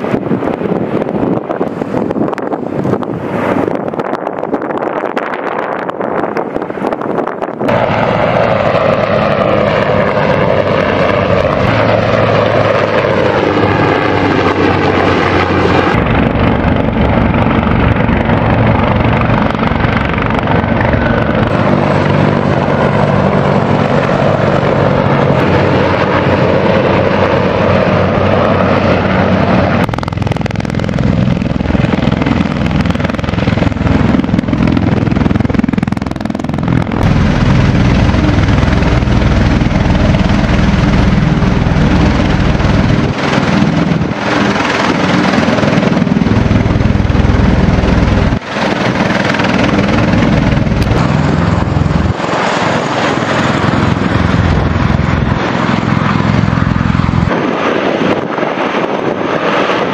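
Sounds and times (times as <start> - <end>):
helicopter rotor and turbine: 0.0 - 59.9
low helicopter rotor tones: 0.0 - 59.9.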